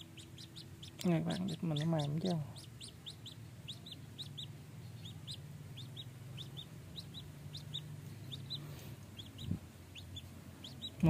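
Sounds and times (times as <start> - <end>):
duckling peeping: 0.0 - 11.0.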